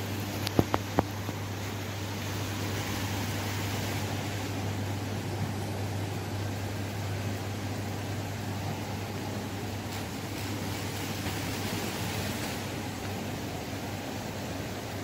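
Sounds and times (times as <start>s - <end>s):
ventilation hum and hiss: 0.0s - 15.0s.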